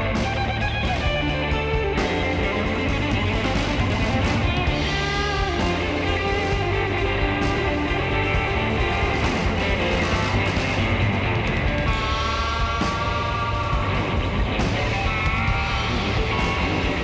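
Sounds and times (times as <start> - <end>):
guitar-led rock music: 0.0 - 17.0.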